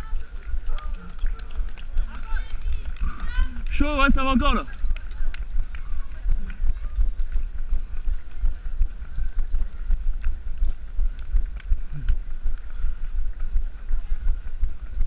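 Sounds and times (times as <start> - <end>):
running footsteps on asphalt: 0.0 - 15.0.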